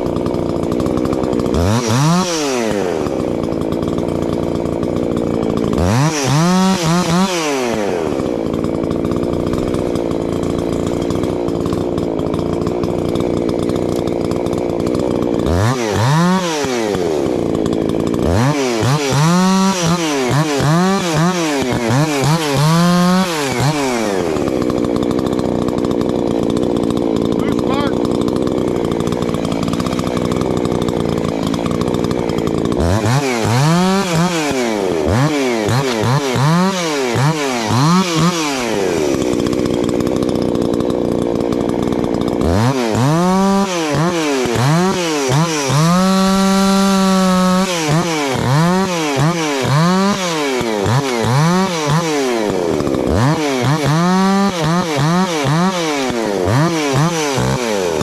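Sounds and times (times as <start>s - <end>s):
chainsaw cutting and revving: 0.0s - 58.0s.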